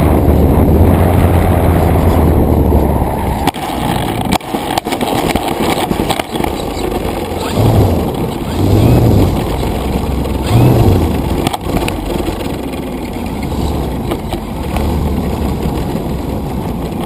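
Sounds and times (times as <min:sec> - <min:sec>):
wheels rumbling over asphalt: 0:00.0 - 0:17.0.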